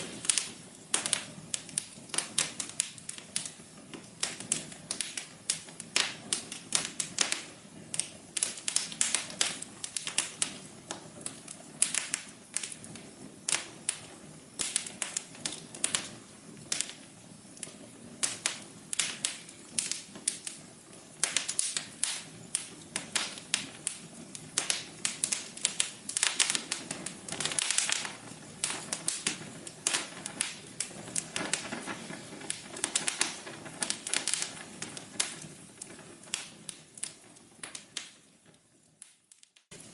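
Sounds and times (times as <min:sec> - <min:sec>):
fire crackling and popping: 0:00.0 - 0:39.9
soft steady hiss: 0:00.0 - 0:39.9.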